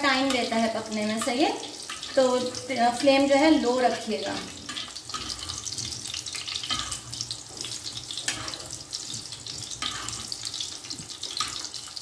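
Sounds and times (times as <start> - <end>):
kebab sizzling in hot oil: 0.0 - 12.0.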